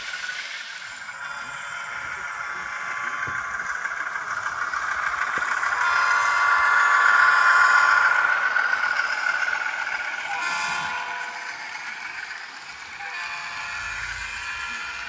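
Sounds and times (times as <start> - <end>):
model locomotive diesel engine sound: 0.0 - 15.0.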